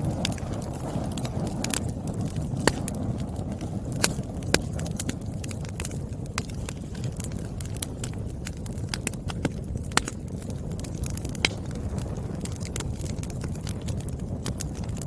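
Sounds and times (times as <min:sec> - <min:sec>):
low rumble of burning: 0:00.0 - 0:15.0
wood fire crackling: 0:00.0 - 0:15.0.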